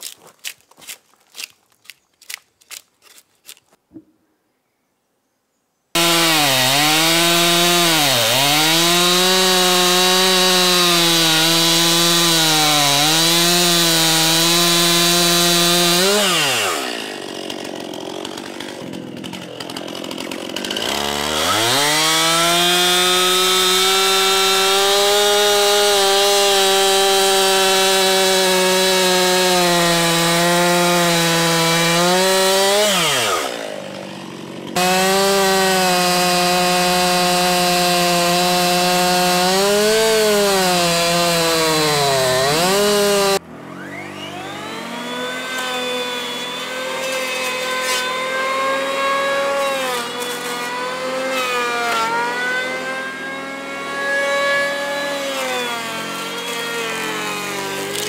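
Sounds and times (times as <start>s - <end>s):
chainsaw cutting wood: 0.0s - 3.8s, 6.0s - 58.0s.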